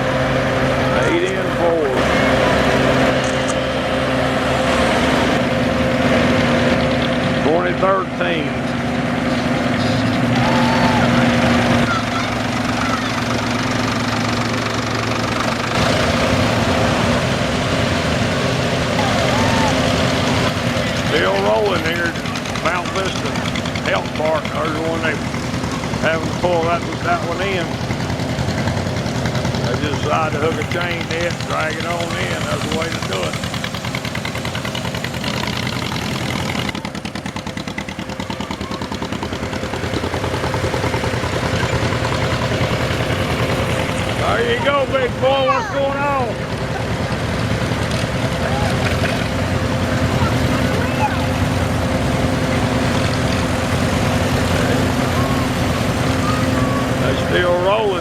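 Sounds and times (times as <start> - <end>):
tractor engines passing: 0.0 - 58.0.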